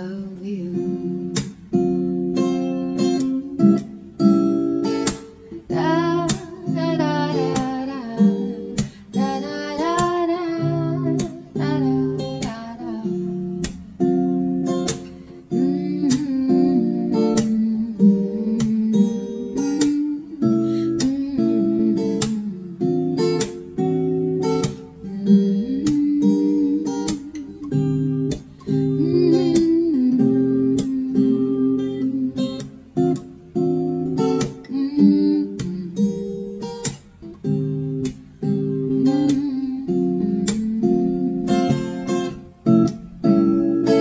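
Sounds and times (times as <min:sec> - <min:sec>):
acoustic guitar strumming chords: 0:00.0 - 0:44.0.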